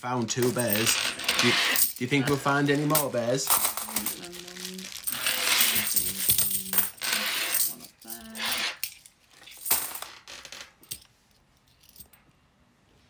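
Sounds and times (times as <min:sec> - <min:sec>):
coins clattering onto a mat: 0:00.4 - 0:12.2.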